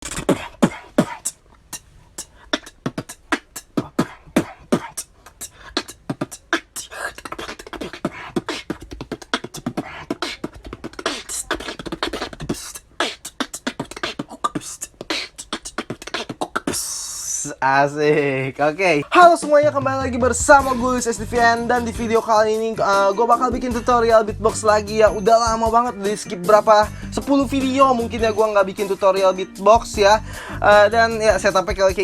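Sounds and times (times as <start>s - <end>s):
beatboxing drum sounds: 0.0s - 17.6s, 19.0s - 32.0s
beatboxing hissing sounds: 0.0s - 17.6s, 20.4s - 32.0s.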